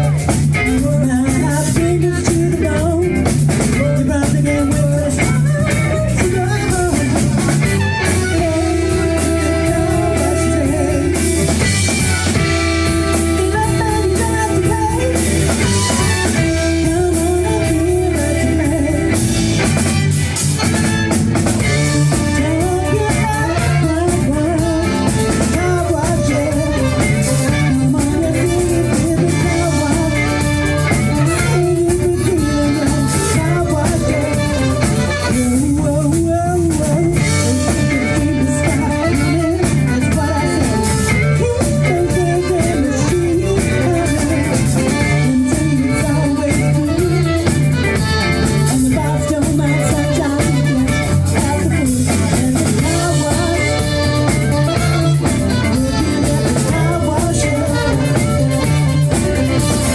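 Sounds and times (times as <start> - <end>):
live funk band playing: 0.0 - 59.9
person singing: 0.0 - 59.9.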